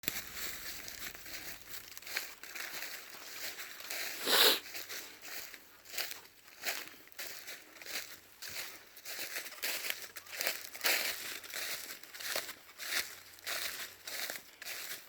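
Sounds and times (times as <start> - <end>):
footsteps crunching through dry leaves: 0.0 - 15.0.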